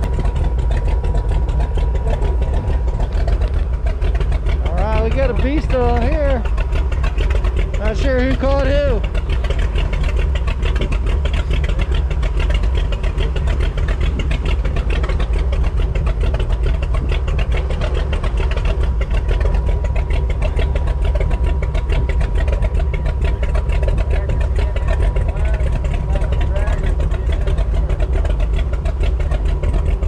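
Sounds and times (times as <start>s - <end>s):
boat motor running: 0.0s - 30.0s
choppy water: 0.0s - 30.0s
wind: 0.0s - 30.0s.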